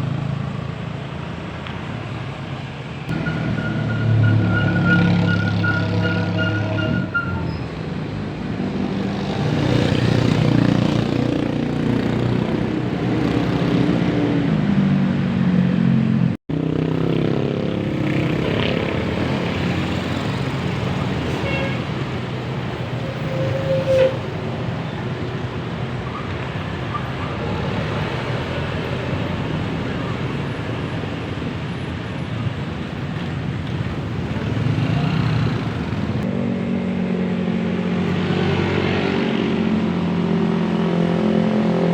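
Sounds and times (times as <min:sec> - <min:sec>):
bus engines passing: 0:00.0 - 0:41.9
road traffic hum: 0:00.0 - 0:41.9.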